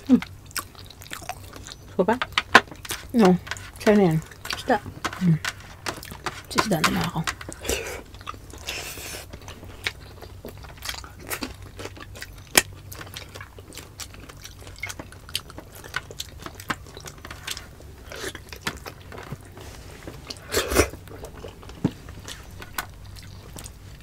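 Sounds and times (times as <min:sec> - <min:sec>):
chewing: 0:00.0 - 0:24.0.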